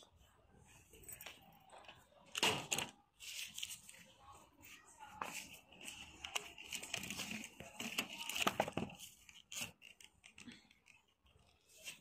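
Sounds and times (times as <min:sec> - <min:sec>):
faint murmur of voices: 0:00.0 - 0:12.0.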